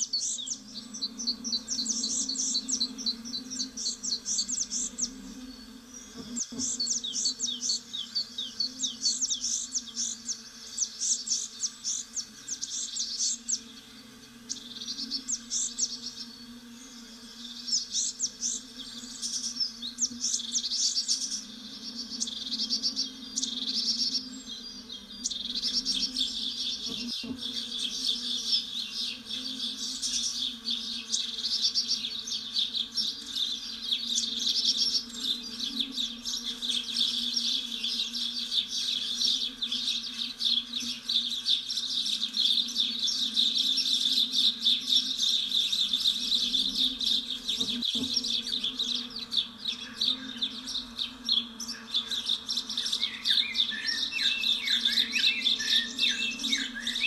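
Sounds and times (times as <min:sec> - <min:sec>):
songbirds chirping in trills: 0:00.0 - 0:57.0.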